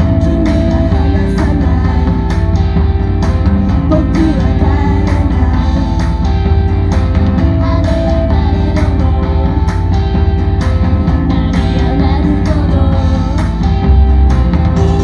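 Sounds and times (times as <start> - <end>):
person singing: 0.0 - 2.9, 3.7 - 10.5, 11.5 - 15.0
live rock music: 0.0 - 15.0.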